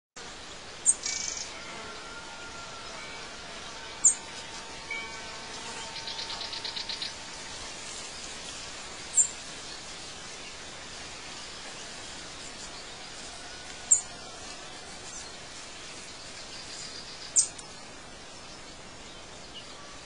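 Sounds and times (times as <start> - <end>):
steady hiss: 0.2 - 20.0.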